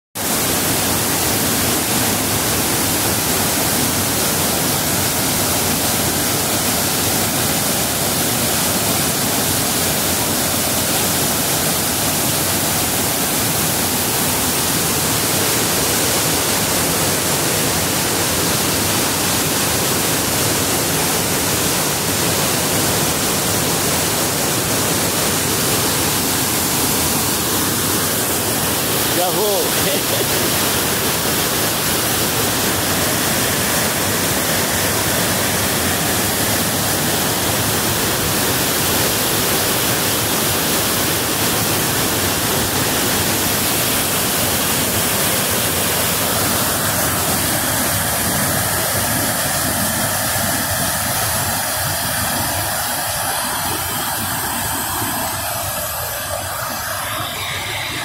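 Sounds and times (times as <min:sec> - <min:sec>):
waterfall and rapids rushing: 0:00.2 - 0:58.0.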